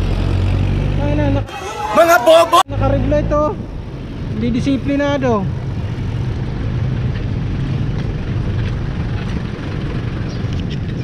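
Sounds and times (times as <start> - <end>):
motorcycle engine humming: 0.0 - 11.0
road and wind noise: 0.0 - 11.0.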